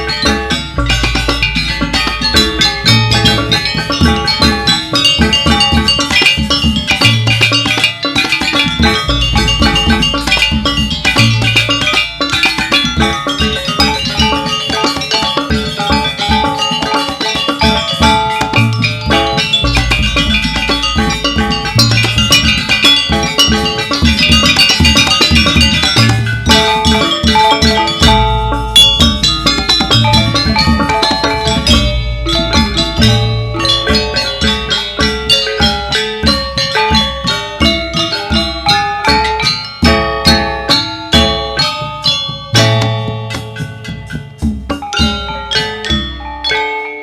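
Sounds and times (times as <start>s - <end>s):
drum strokes: 0.0s - 46.6s
struck metallophone notes: 0.0s - 47.0s.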